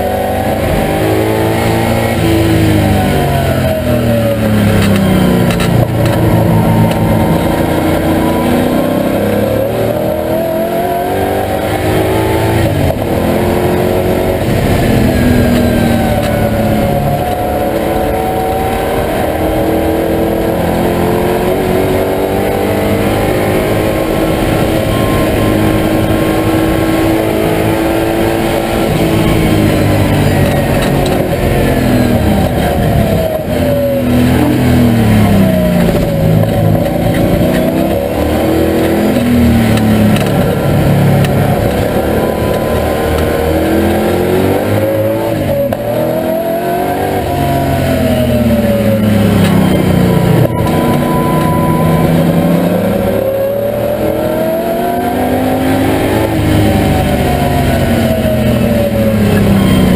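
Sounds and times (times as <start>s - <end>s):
engine revving from inside car: 0.0s - 59.9s.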